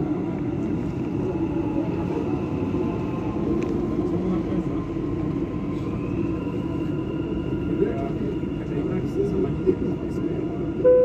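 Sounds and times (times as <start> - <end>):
train rumbling and rolling: 0.0 - 11.0.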